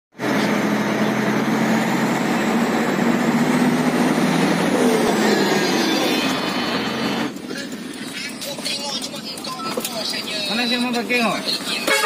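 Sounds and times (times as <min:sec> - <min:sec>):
diesel truck engine running: 0:00.2 - 0:12.0.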